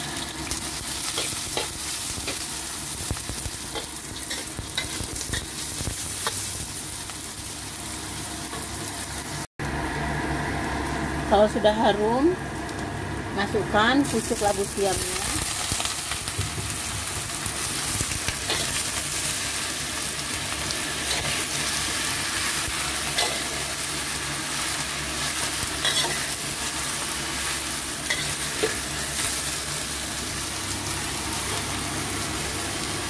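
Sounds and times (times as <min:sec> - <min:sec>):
vegetables sizzling in hot oil: 0:00.0 - 0:09.5, 0:10.2 - 0:33.0.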